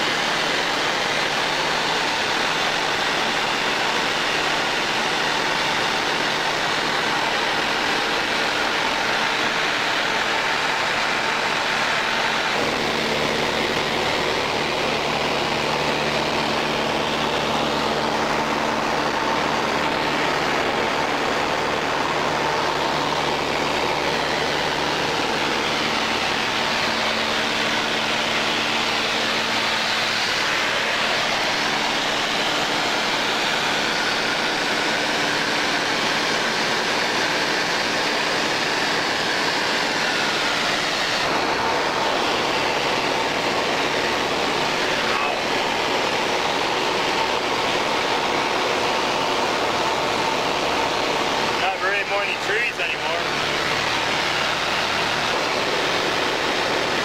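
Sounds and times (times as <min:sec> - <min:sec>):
light aircraft engine and propeller drone: 0:00.0 - 0:57.0.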